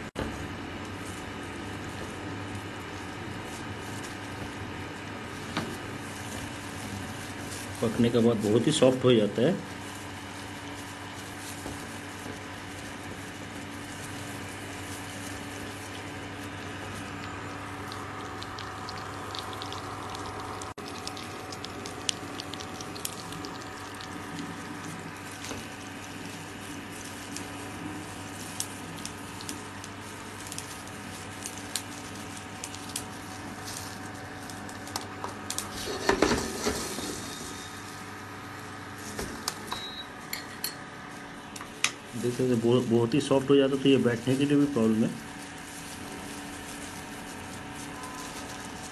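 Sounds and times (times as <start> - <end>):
kitchen background hum: 0.0 - 48.9.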